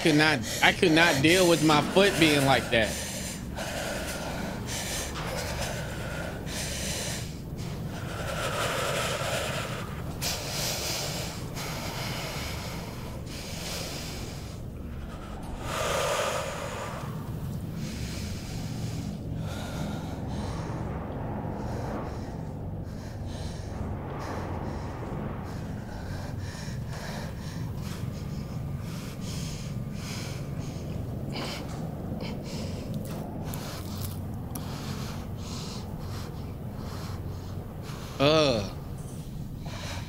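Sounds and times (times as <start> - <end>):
low steady rumble: 0.0 - 40.0.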